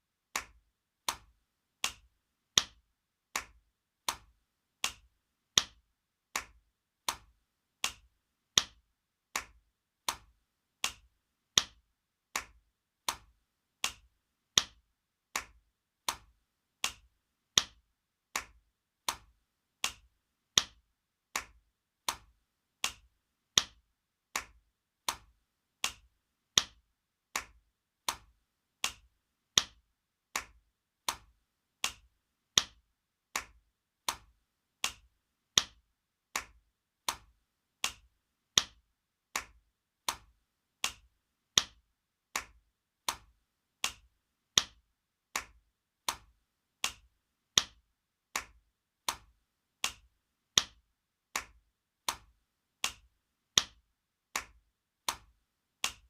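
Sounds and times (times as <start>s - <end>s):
hand slapping skin: 0.3s - 53.8s, 54.4s - 56.0s.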